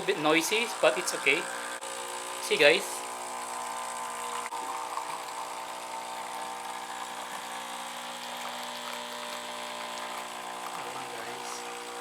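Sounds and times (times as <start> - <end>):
coffee machine pump humming: 0.0 - 12.0.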